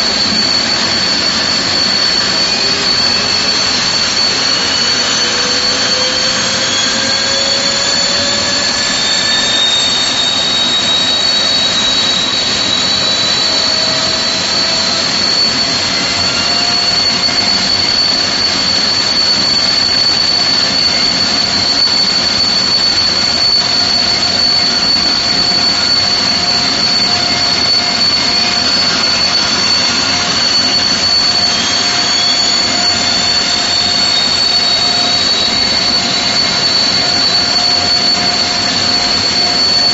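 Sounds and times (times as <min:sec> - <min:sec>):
turboprop engines roaring: 0:00.0 - 0:39.9.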